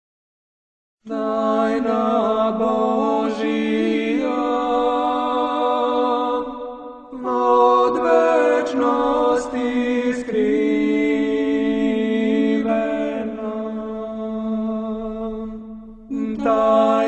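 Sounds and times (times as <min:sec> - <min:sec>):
a cappella chant melody: 0:01.0 - 0:17.0.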